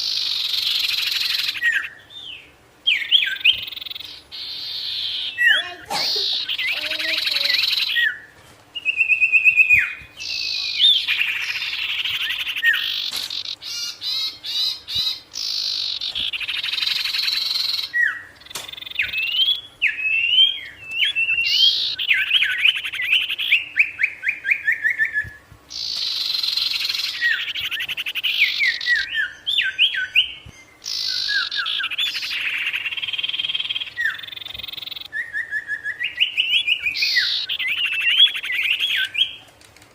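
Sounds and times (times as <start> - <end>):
songbird singing trills and chirps: 0.0 - 39.7.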